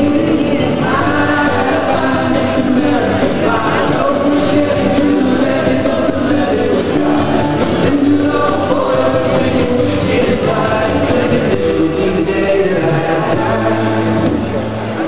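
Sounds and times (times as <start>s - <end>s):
group of voices singing: 0.0s - 15.0s
live band playing: 0.0s - 15.0s.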